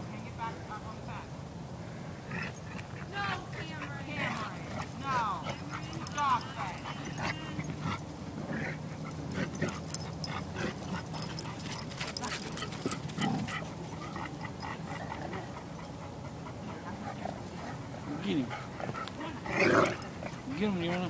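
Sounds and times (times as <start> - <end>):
dogs growling: 2.1 - 21.0.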